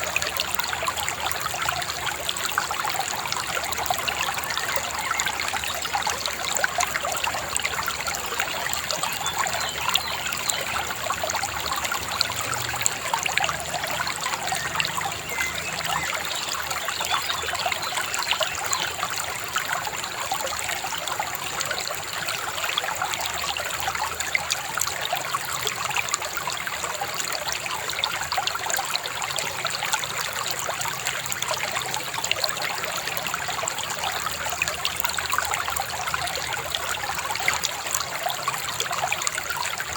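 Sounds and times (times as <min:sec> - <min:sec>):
shallow river babbling: 0:00.0 - 0:39.9.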